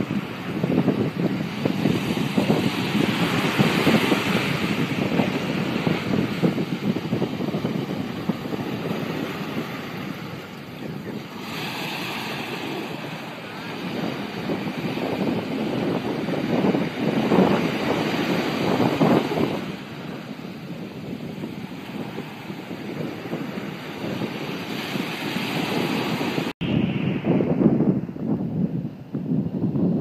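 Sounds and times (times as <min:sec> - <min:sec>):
small waves breaking on beach: 0:00.0 - 0:26.5
wind on microphone: 0:00.0 - 0:30.0.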